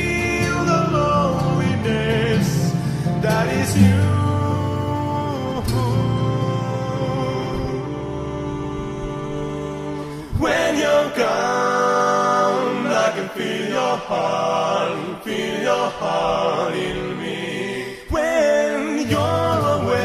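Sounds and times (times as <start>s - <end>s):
layered vocal harmonies: 0.0s - 20.0s.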